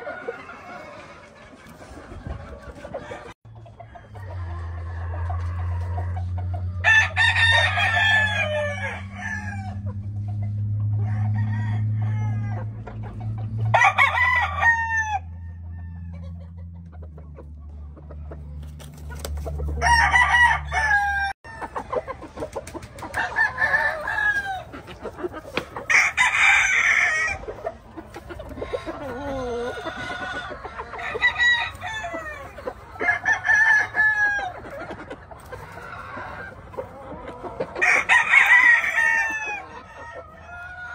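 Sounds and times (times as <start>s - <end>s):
roosters crowing: 0.0s - 16.8s, 18.8s - 40.9s
chickens clucking: 0.0s - 40.9s.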